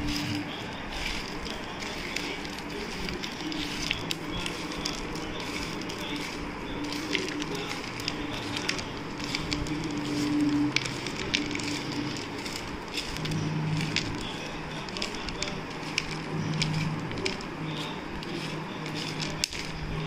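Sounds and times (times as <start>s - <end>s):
hand rustling dry puffed rice: 0.0s - 20.0s.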